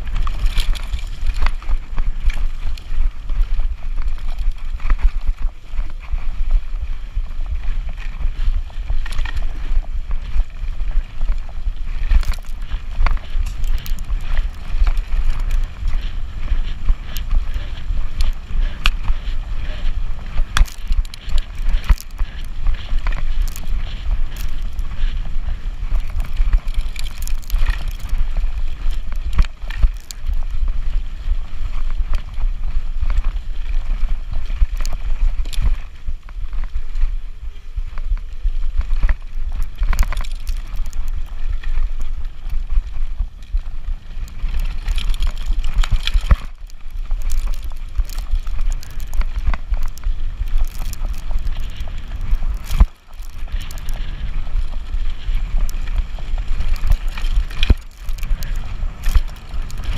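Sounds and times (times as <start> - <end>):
bike knocking and rattling: 0.0 - 59.9
wind buffeting microphone: 0.0 - 59.9.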